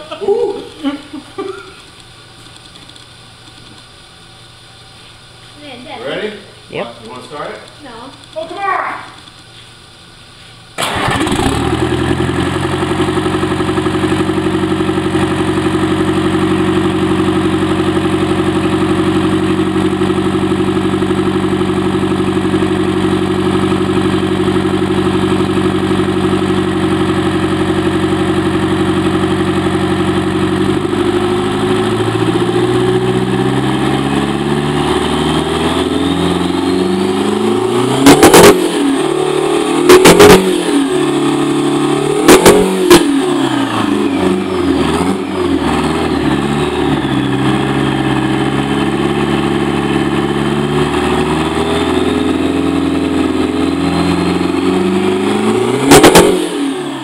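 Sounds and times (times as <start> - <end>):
diesel engine starting and revving: 10.8 - 57.0.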